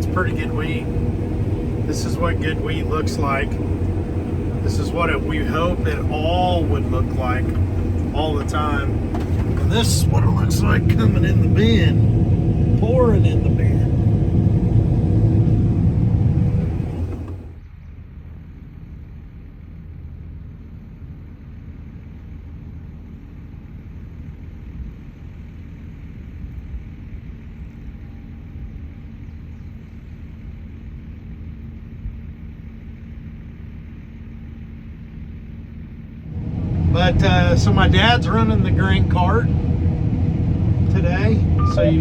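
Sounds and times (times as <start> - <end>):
combine harvester rumble: 0.0 - 42.0
faint steady hum: 0.0 - 42.0.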